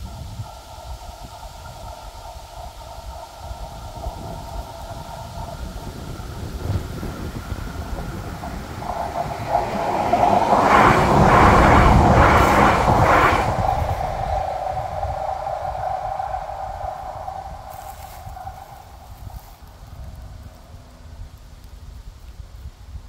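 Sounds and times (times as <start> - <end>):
electric train passing: 0.1 - 21.7.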